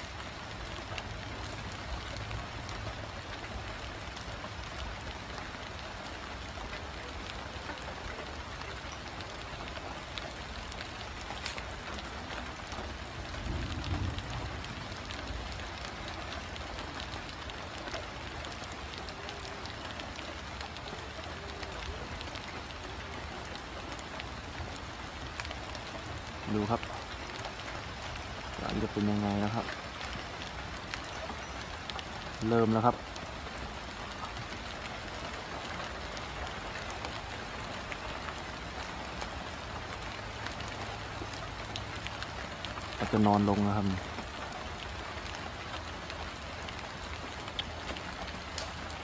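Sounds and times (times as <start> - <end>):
drizzle on wet ground: 0.0 - 49.0.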